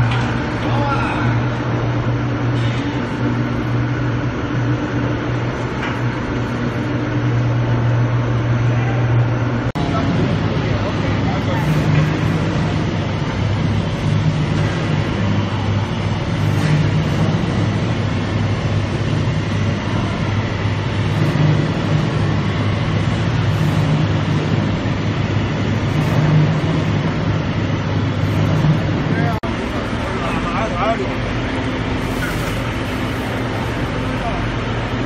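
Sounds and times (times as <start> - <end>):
loud machine drone: 0.0 - 35.0.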